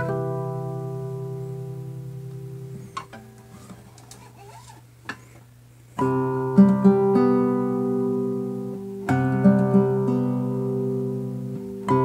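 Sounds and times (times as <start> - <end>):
classical guitar fingerstyle: 0.0 - 12.0.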